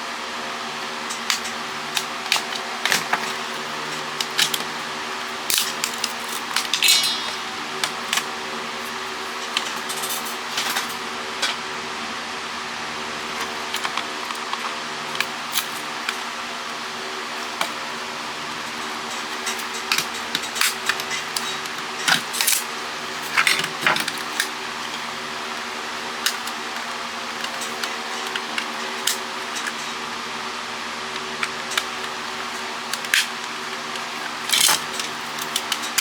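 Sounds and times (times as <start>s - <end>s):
steady hum: 0.0s - 36.0s
plastic parts clicking and clattering: 0.8s - 11.6s, 13.4s - 30.0s, 31.2s - 36.0s.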